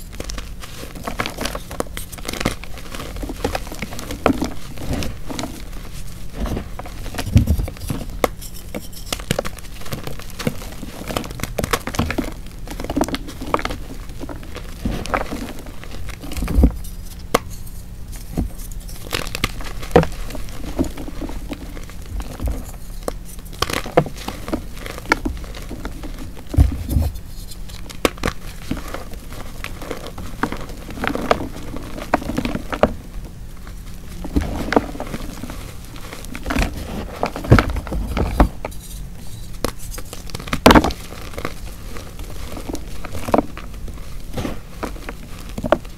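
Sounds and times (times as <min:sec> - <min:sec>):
chalk blocks crunching: 0:00.0 - 0:45.9.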